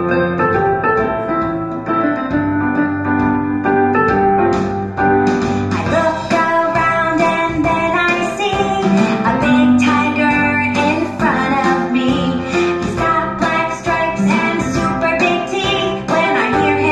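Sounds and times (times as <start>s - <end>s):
keyboard melody music: 0.0s - 16.9s.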